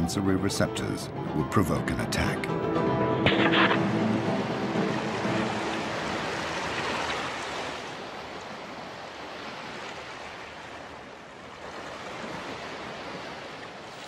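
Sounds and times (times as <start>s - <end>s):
ocean waves surf: 0.0s - 14.0s.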